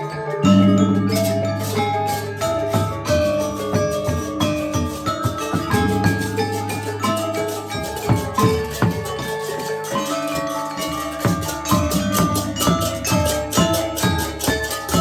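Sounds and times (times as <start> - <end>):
metallophones ringing: 0.0 - 15.0
drum strokes: 0.4 - 15.0.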